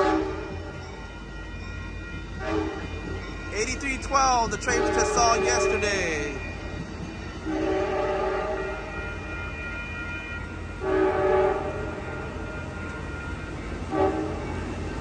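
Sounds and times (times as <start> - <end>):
locomotive horn blasts: 0.0 - 15.0
passing train rumble: 0.0 - 15.0.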